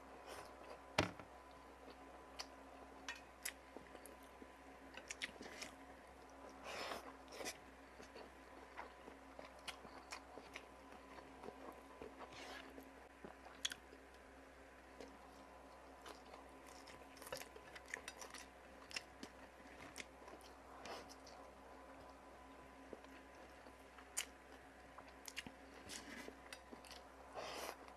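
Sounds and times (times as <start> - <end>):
person chewing and crunching food: 1.6 - 14.2, 14.9 - 22.2, 22.8 - 27.9.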